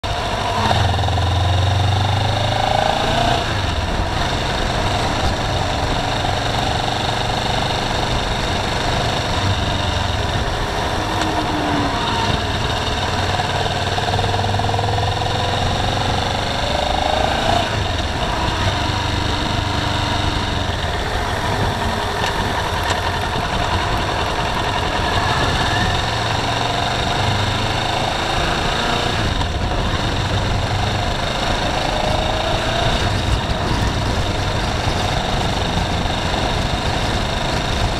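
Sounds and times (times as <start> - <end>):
car engine and tyre drone: 0.0 - 37.9.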